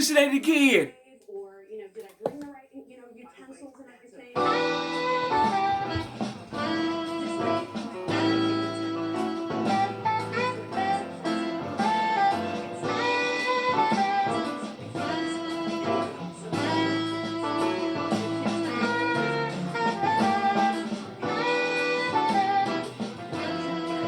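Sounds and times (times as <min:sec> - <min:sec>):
guitar backing track: 0:04.4 - 0:24.0.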